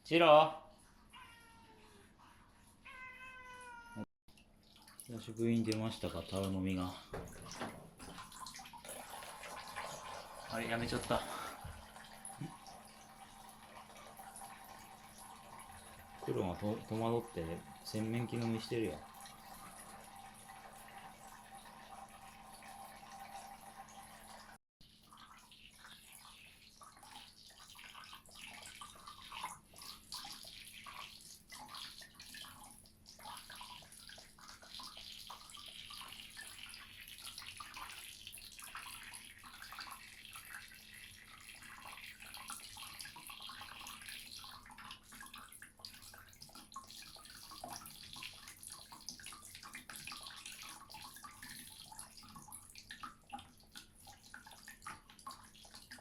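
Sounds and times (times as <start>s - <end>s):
tap water running into basin: 4.3s - 56.0s
cat lapping water: 4.6s - 22.0s, 24.8s - 56.0s.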